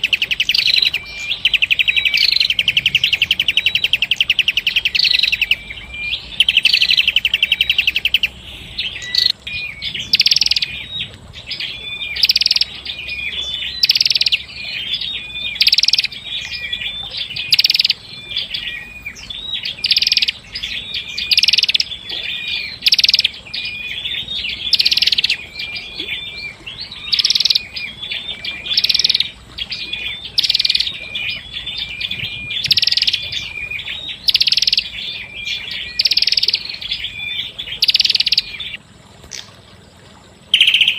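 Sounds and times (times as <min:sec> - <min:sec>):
bird singing trills and chips: 0:00.0 - 0:39.7, 0:40.5 - 0:40.9.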